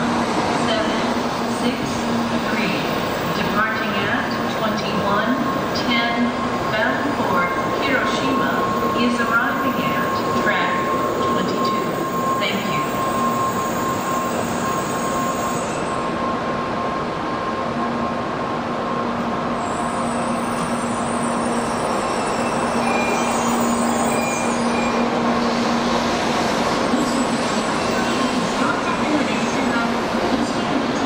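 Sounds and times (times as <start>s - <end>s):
train rolling to a stop: 0.0s - 31.0s.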